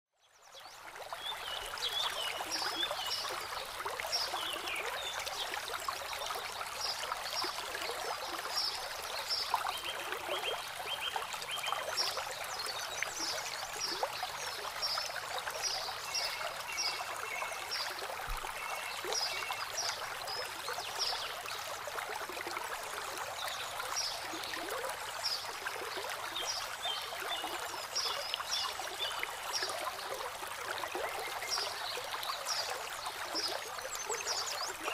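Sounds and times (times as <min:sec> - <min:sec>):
water trickling over pebbles: 0:00.4 - 0:34.9.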